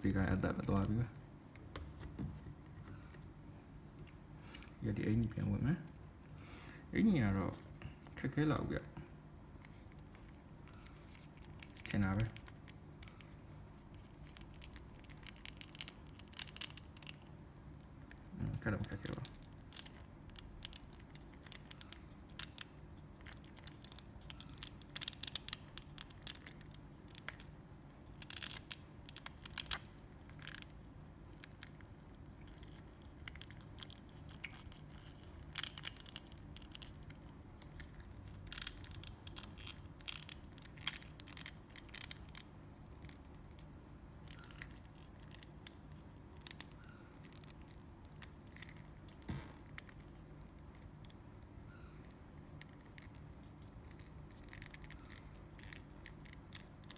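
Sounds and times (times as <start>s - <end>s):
steady low hum: 0.0s - 56.9s
plastic parts clicking and scraping: 9.6s - 17.3s, 18.0s - 56.9s.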